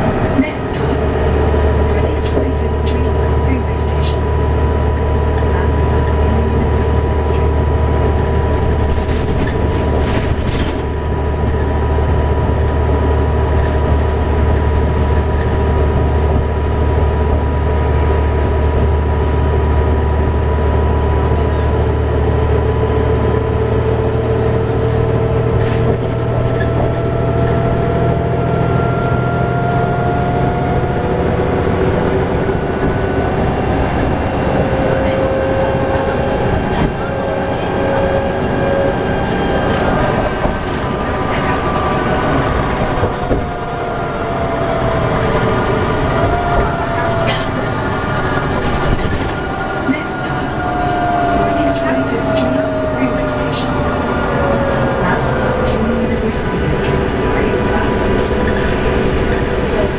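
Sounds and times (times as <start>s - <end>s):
bus engine drone: 0.0s - 59.9s
road and tyre noise: 0.0s - 59.9s.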